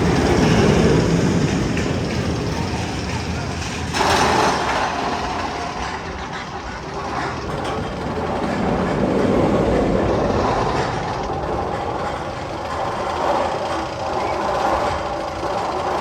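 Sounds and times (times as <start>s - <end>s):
train rolling on rails: 0.0s - 16.0s.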